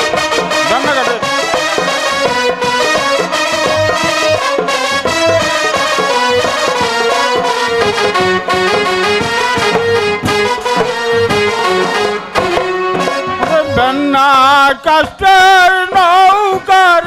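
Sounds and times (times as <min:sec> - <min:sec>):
trumpet playing held notes: 0:00.0 - 0:14.1
steady beat: 0:00.0 - 0:17.0.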